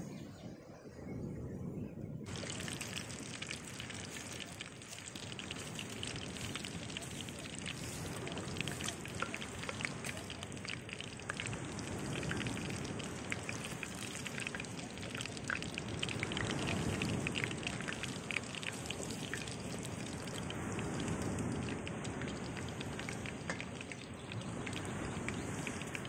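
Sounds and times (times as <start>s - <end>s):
fish deep-frying in oil: 2.3s - 26.0s.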